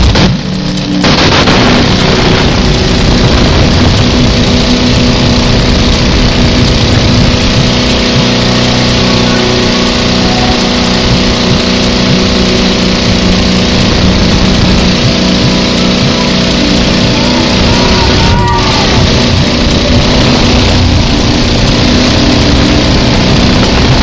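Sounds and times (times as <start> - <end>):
speedboat engine droning: 0.0 - 24.0
water and spray rushing: 0.0 - 24.0
wind on microphone: 1.0 - 24.0.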